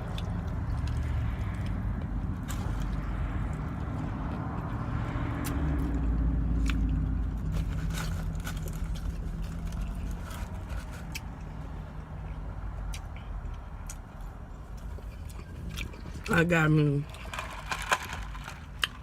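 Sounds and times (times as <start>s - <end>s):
biting and chewing food: 0.0s - 19.0s
road traffic rumble: 0.0s - 19.0s
vehicle passing: 0.0s - 19.0s.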